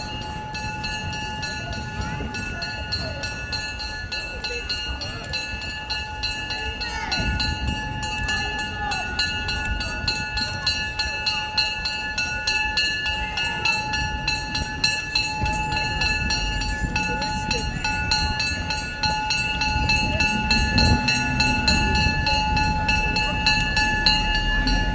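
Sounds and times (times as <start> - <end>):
rapid train clatter: 0.0 - 24.9.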